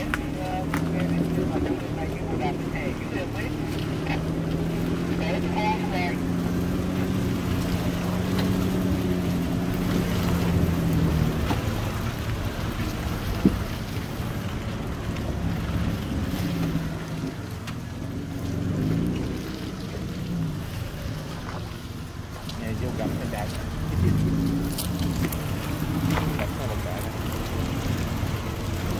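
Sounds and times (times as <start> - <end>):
suv engine running: 0.0 - 28.9.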